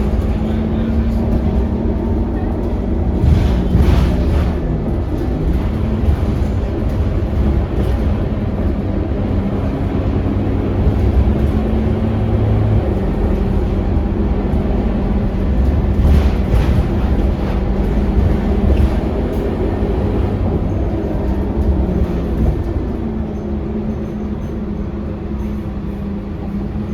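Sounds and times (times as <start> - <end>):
bus diesel engine droning: 0.0 - 26.9
road noise: 0.0 - 26.9.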